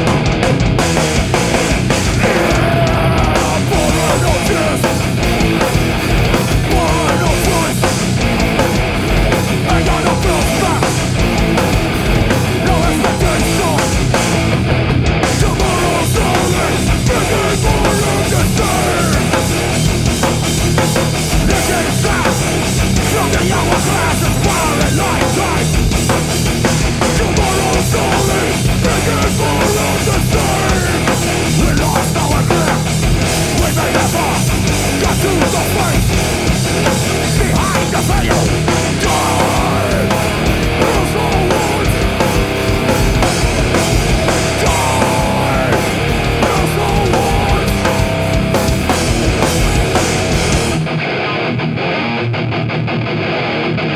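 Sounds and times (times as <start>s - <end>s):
live heavy distorted rock band: 0.0s - 53.9s.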